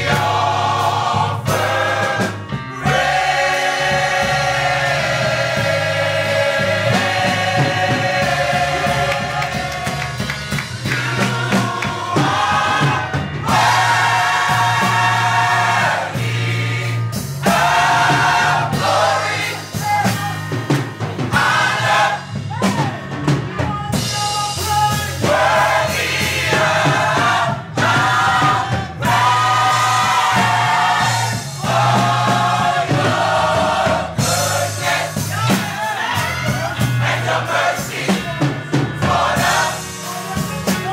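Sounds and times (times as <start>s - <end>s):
bass guitar: 0.0s - 40.9s
drum kit: 0.0s - 40.9s
gospel choir singing: 0.0s - 40.9s.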